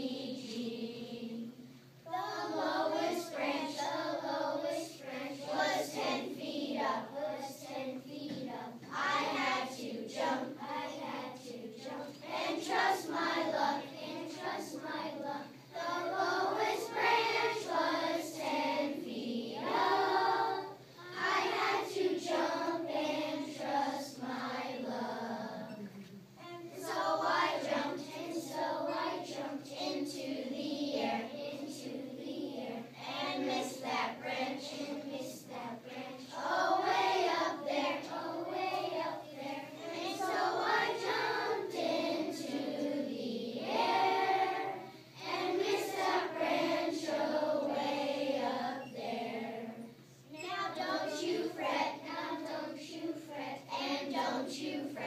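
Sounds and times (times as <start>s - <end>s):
children singing together: 0.0s - 55.0s.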